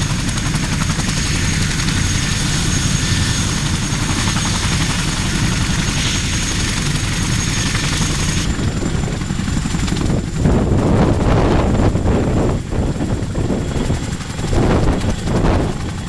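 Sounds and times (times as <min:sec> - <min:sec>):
helicopter rotors and turbines droning: 0:00.0 - 0:16.0
gusty rush: 0:01.4 - 0:16.0.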